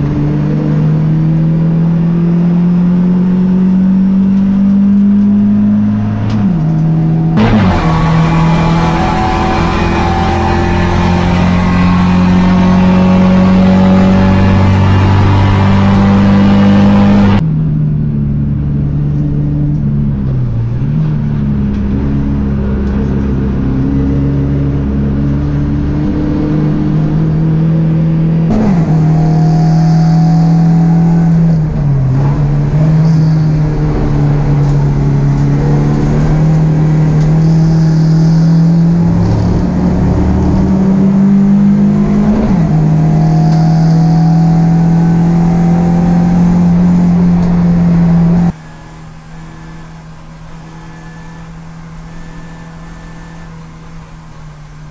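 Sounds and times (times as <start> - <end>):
race car engines running hard: 0.0 - 54.9.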